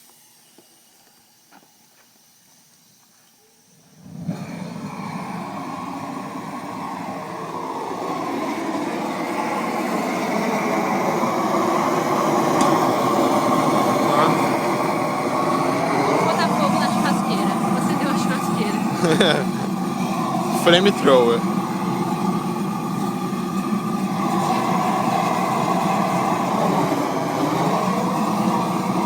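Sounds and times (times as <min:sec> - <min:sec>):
gas torch roaring: 0:04.0 - 0:29.0.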